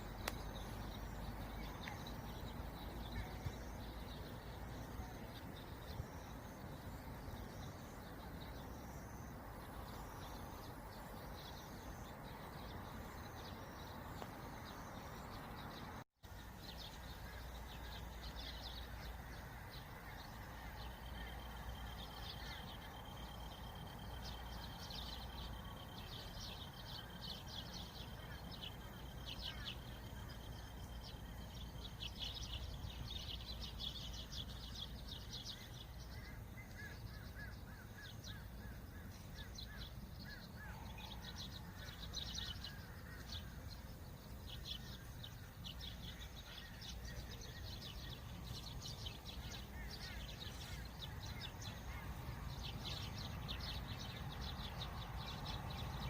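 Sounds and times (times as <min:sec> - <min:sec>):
low rumble of wind: 0:00.0 - 0:56.0
small birds chirping: 0:00.0 - 0:56.0.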